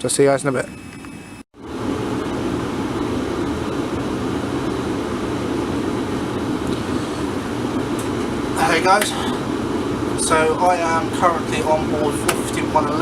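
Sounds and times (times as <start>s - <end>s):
air-conditioning hum: 0.0s - 13.0s.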